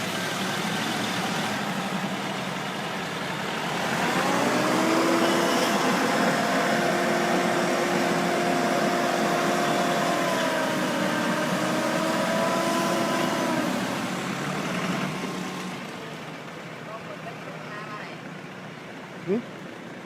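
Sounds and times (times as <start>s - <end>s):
heavy machinery engine: 0.0s - 20.0s.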